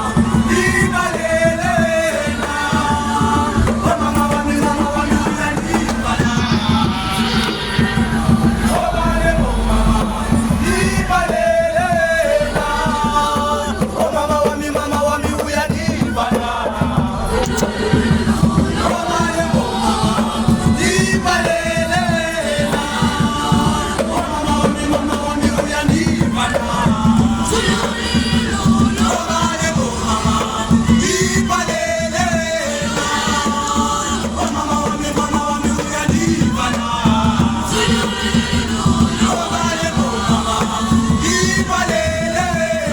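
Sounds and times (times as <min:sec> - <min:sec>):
children singing: 0:00.0 - 0:42.9
rhythmic musical backing: 0:00.0 - 0:42.9.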